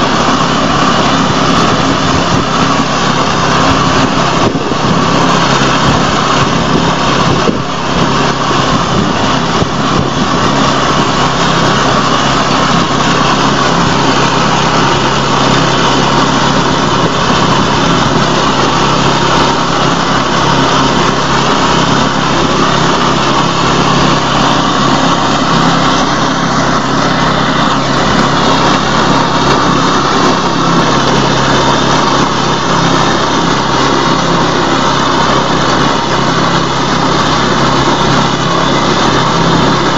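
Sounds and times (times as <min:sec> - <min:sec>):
reaper machine engine running: 0:00.0 - 0:39.9.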